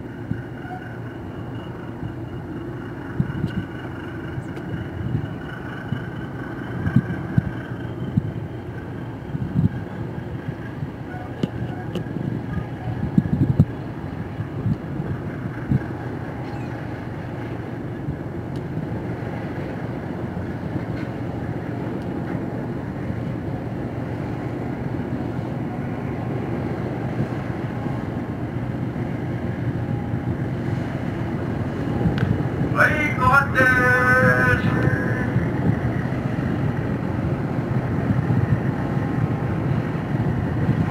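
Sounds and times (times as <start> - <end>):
diesel engine low rumble: 0.0 - 40.9
wind buffeting microphone: 0.0 - 40.9.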